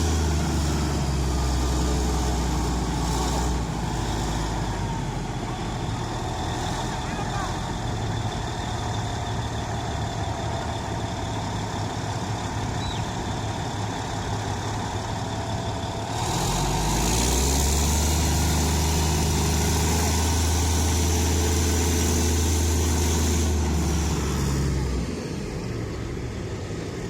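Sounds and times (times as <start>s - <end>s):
heavy diesel engine idling and revving: 0.0s - 27.0s.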